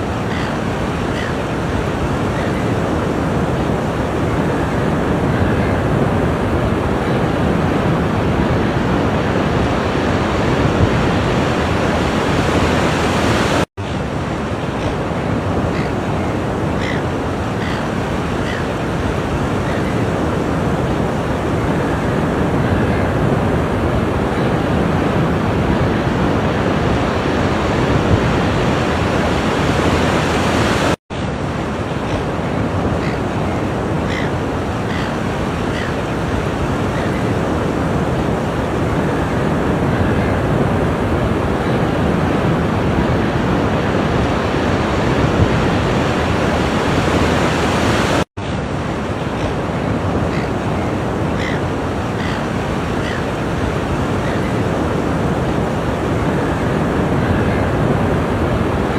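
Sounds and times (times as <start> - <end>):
ocean surf washing onto shore: 0.0 - 58.9.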